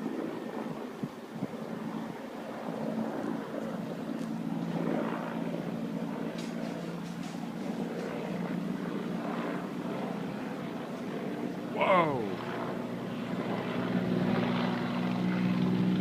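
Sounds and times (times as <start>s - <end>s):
low engine drone: 2.9s - 16.0s.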